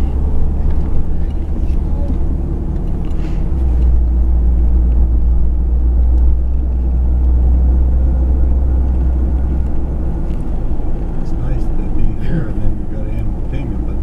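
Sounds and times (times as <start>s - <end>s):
vehicle cabin road rumble: 0.0s - 14.0s.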